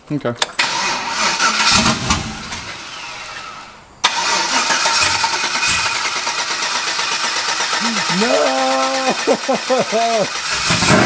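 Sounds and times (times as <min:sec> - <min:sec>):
engine starting and running: 0:00.6 - 0:11.0.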